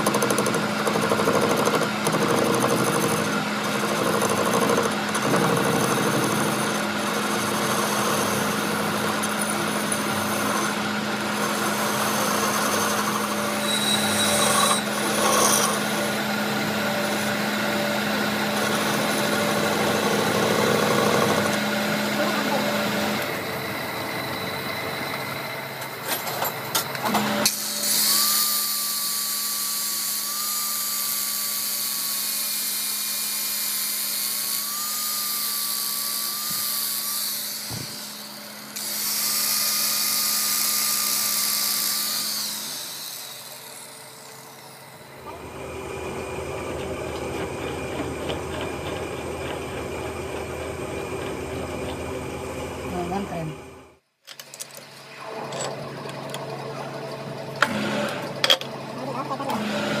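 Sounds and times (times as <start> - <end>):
power tool whining: 0.0 - 60.0.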